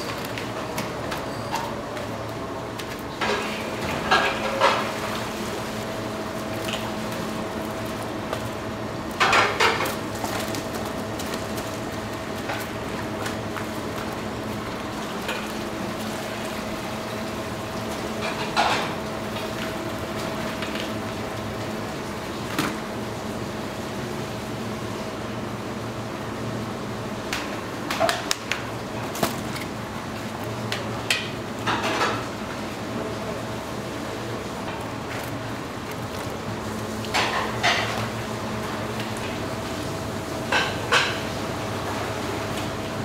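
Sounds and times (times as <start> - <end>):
steady kitchen hum: 0.0 - 43.0.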